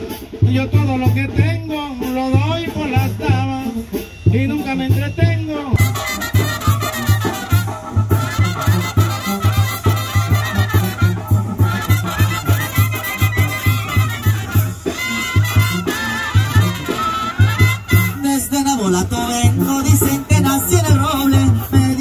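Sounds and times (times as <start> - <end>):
horns and reeds melody: 0.0 - 22.0
pulsing tuba bass line: 4.3 - 22.0.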